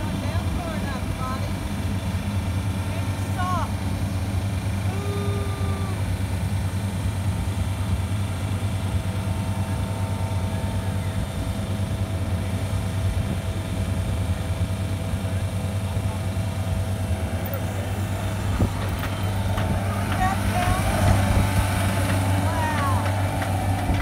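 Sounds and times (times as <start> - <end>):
loader engine low hum: 0.0 - 24.0.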